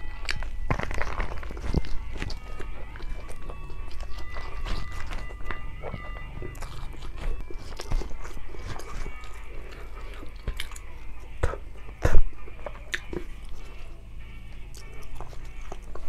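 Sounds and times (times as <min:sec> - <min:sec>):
wet chewing and lip smacks: 0:00.2 - 0:13.9, 0:14.5 - 0:16.0.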